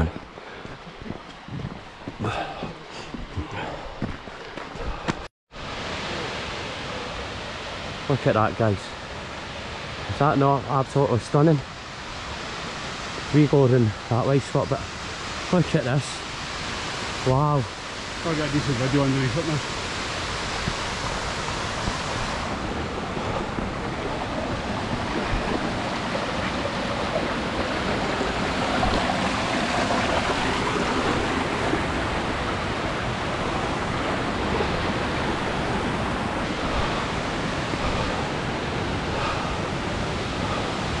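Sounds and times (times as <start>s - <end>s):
waterfall rushing: 5.6s - 41.0s.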